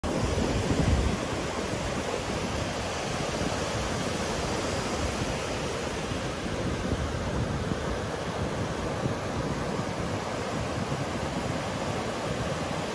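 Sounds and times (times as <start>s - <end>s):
waves washing up a beach: 0.0s - 12.9s.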